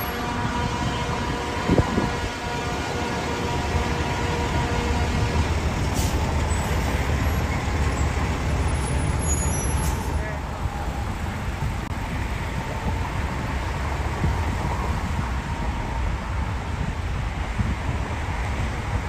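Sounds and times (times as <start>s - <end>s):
idling vehicles rumbling: 0.0s - 19.0s.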